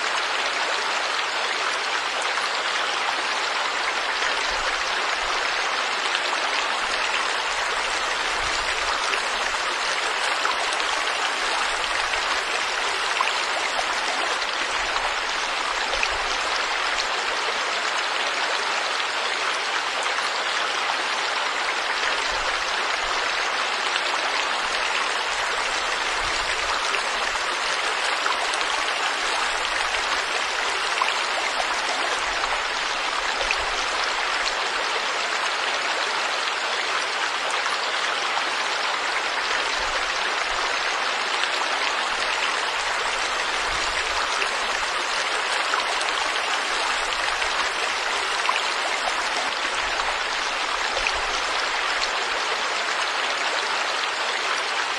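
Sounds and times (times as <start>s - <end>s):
stream flowing: 0.0s - 54.9s.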